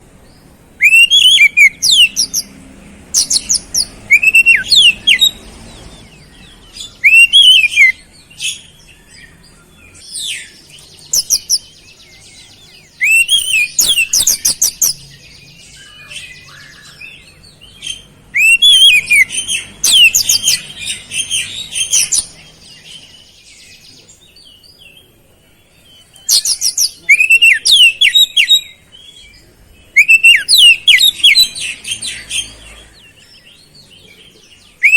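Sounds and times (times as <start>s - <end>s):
songbird singing trilled notes: 0.3s - 25.0s, 25.8s - 34.9s.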